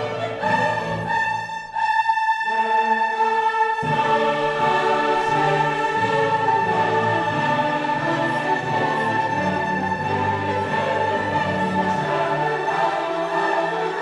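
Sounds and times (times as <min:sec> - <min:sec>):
choir singing with orchestra: 0:00.0 - 0:14.0.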